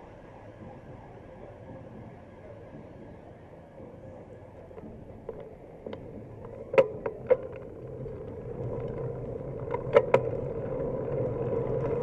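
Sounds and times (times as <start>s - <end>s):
bicycle tyre and road noise: 0.0s - 12.0s
bicycle knocks and rattles: 0.6s - 12.0s.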